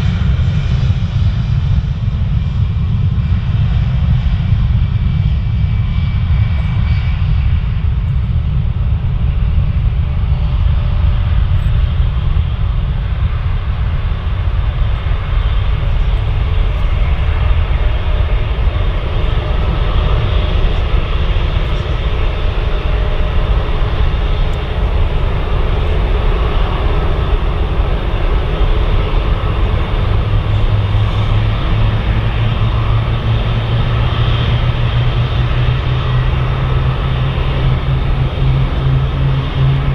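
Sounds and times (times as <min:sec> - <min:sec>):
jet engines running: 0:00.0 - 0:39.9
low steady drone: 0:00.0 - 0:39.9.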